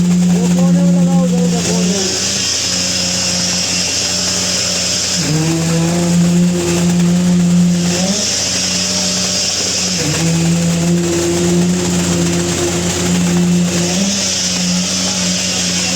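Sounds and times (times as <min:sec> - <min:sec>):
high hissing rattle: 0:00.0 - 0:15.9
vibrator motor hum: 0:00.0 - 0:15.9.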